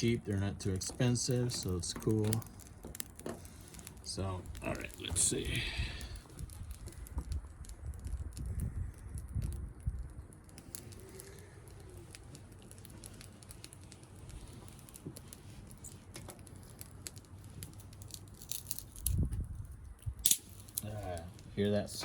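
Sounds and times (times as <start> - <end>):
fire crackling and snapping: 0.0 - 22.0.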